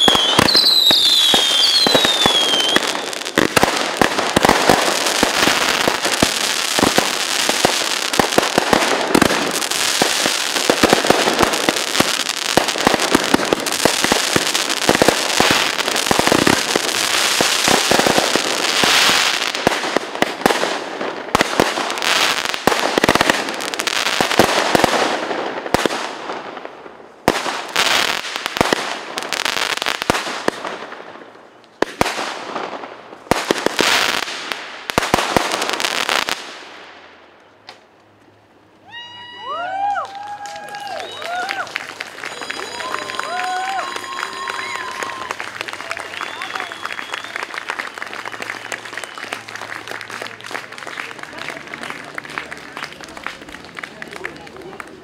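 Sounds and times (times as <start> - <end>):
loud fireworks bangs: 0.0 - 36.9, 40.1 - 50.7
fireworks crackling and popping: 0.0 - 55.0.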